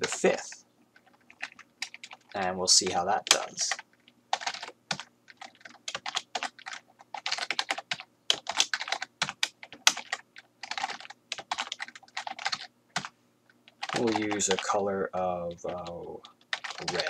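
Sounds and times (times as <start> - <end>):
typing on computer keyboard: 0.0 - 2.4, 3.2 - 14.8, 15.5 - 17.0.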